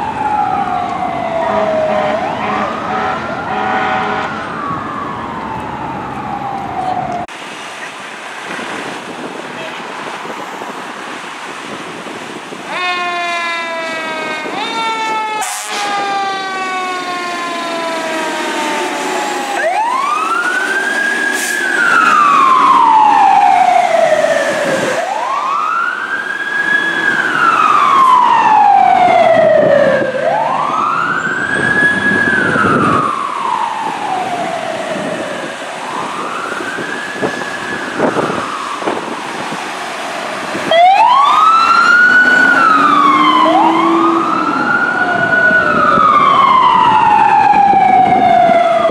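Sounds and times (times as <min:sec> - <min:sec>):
fire engine siren wailing: 0:00.0 - 0:07.3, 0:11.6 - 0:48.9
second siren wailing faster: 0:00.0 - 0:07.3, 0:12.7 - 0:48.9.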